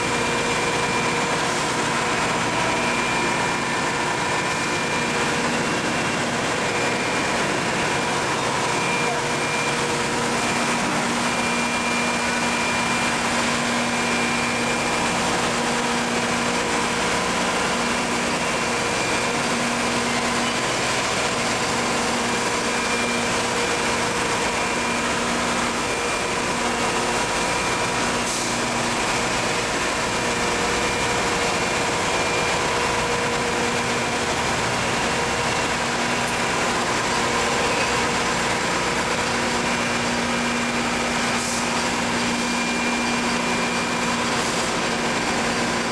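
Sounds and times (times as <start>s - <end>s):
machine hum and hiss: 0.0s - 45.9s.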